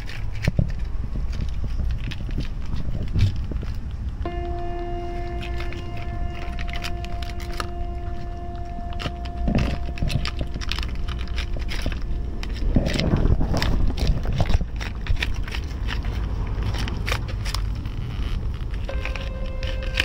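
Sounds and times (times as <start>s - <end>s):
cat chewing and licking wet food: 0.0s - 20.0s
steady low rumble: 0.0s - 20.0s.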